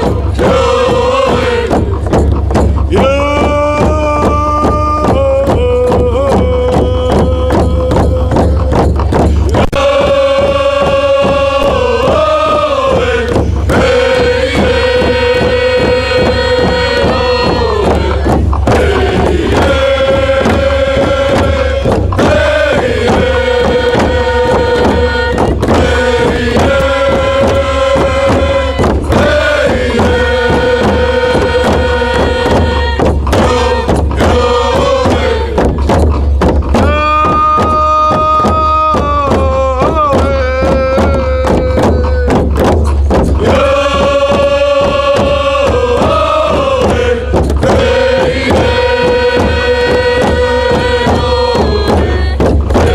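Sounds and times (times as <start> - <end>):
song with sung melody and beat: 0.0 - 52.9.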